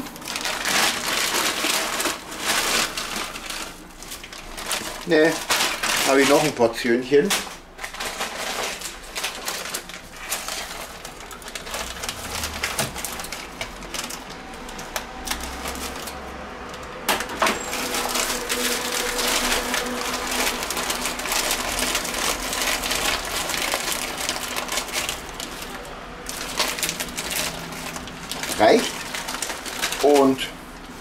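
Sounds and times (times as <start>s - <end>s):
plastic bag rustling: 0.0s - 31.0s.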